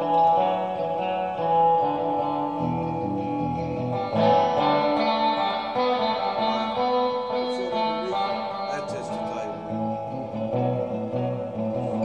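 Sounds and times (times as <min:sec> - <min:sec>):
clean electric guitar with spring reverb: 0:00.0 - 0:12.0.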